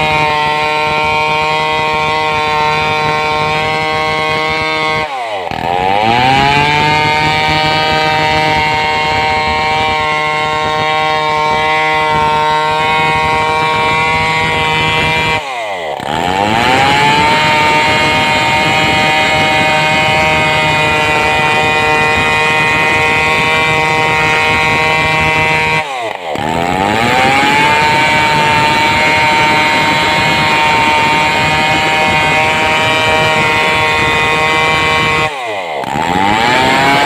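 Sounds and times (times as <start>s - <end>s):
chainsaw cutting at high revs: 0.0s - 37.0s.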